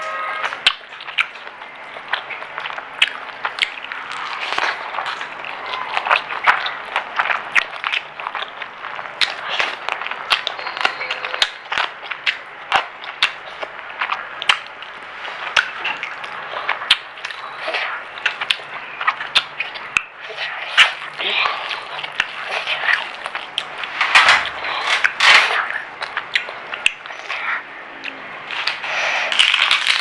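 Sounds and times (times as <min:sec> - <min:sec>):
chewing crunchy fried food: 0:00.4 - 0:30.0.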